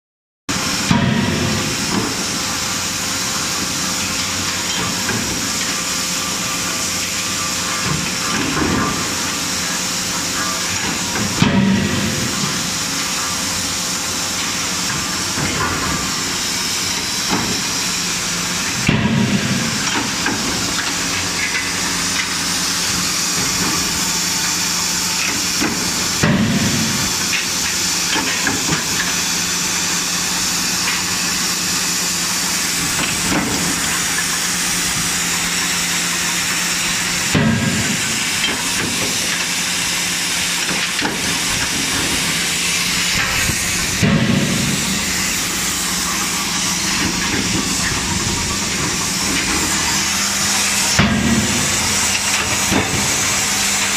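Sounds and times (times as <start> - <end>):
machinery hiss and hum: 0.5 - 53.9.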